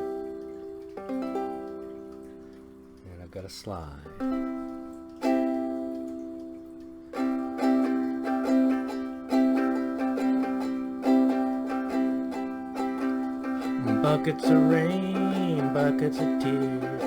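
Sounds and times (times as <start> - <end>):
slide ukulele chords: 0.0 - 17.0.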